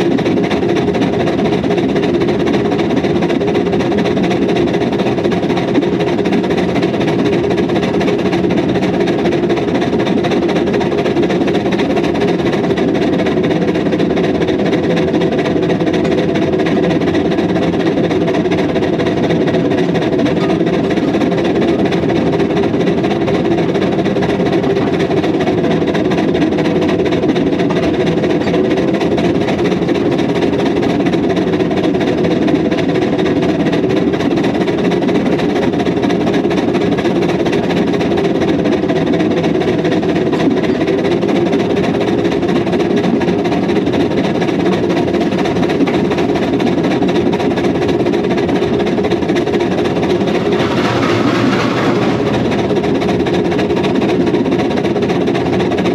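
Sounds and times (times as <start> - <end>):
steam locomotive running: 0.0 - 55.9.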